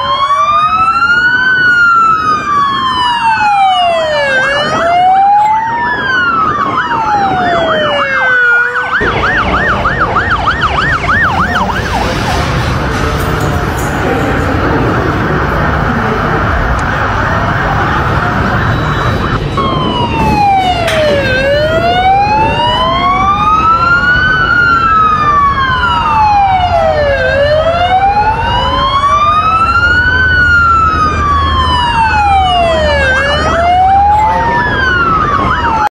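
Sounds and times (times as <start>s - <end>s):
police sirens wailing: 0.0s - 35.9s.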